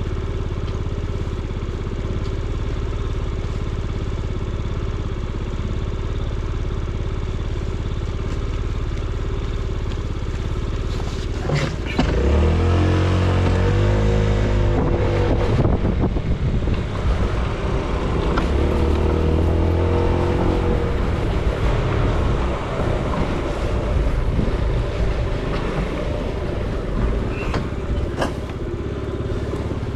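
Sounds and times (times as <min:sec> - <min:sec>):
motorbike engine idling and revving: 0:00.0 - 0:29.9.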